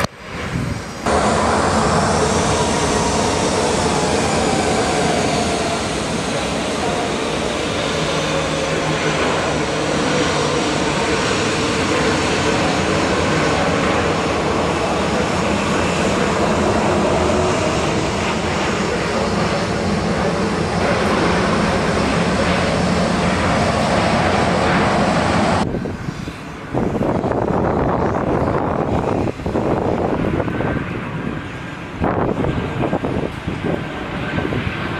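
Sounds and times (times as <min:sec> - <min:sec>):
jet engines rumbling: 0:00.0 - 0:34.9.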